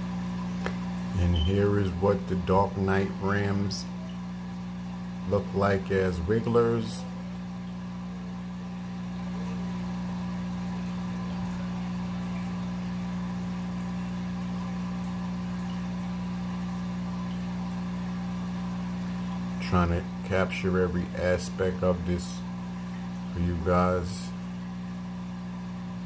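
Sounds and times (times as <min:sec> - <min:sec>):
aquarium equipment humming: 0:00.0 - 0:26.0.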